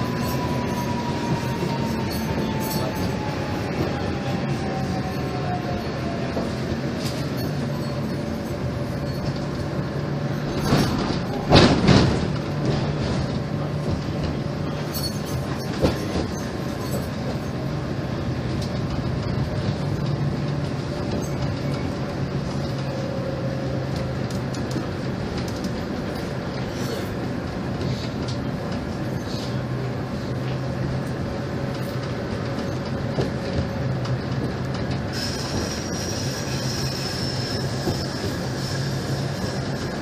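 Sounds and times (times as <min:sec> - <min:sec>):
tram running: 0:00.0 - 0:40.0.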